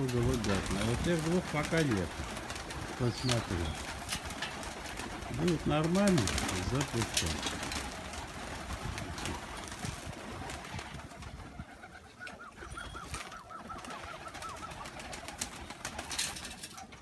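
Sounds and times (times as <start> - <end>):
pigeon wings flapping: 0.0 - 17.0
pigeons cooing: 0.0 - 17.0.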